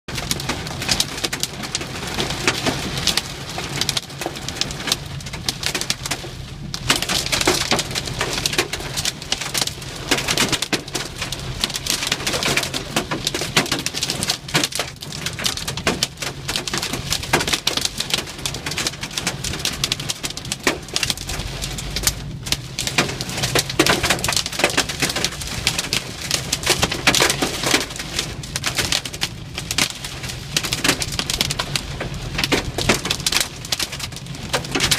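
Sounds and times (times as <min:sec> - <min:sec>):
heavy rain: 0:00.1 - 0:34.9
hailstones clattering: 0:06.8 - 0:34.9.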